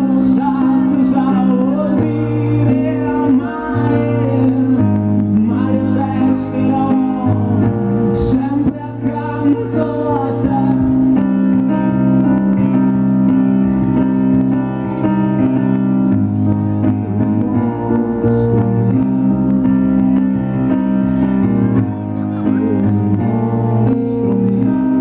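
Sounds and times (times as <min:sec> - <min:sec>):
keyboard chords: 0:00.0 - 0:25.0.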